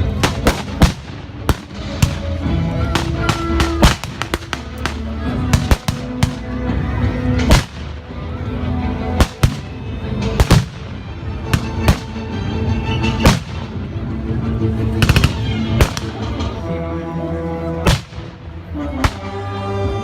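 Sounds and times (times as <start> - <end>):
music or drone: 0.0 - 20.0.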